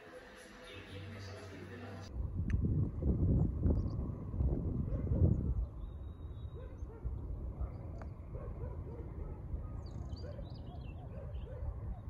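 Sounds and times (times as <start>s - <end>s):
wind rumble on microphone: 2.1s - 12.0s.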